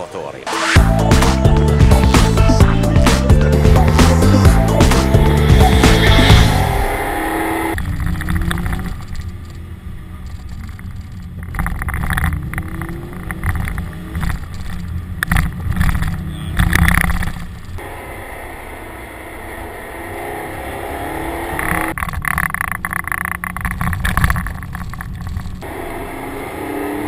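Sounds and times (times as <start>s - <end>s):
road noise rumble: 0.0s - 27.0s
car engine accelerating: 0.4s - 27.0s.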